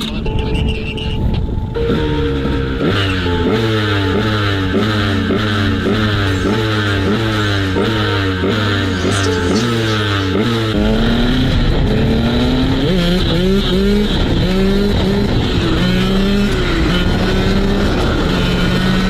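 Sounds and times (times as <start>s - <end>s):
two-stroke engine revving: 1.8s - 19.0s.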